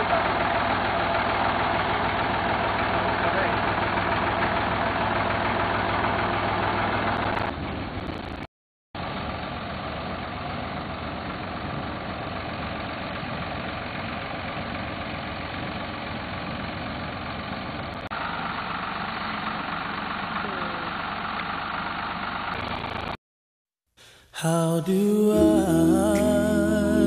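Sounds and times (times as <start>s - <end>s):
tractor engine running: 0.0s - 8.1s, 9.0s - 23.1s.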